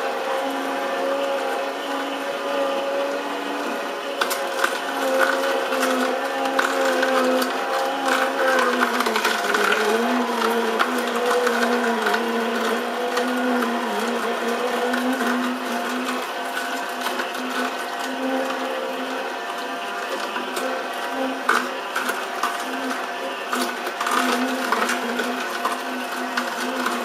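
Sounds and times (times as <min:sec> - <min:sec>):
juicer motor hum: 0:00.0 - 0:27.0
faint crackling of carrot crushing: 0:00.1 - 0:27.0.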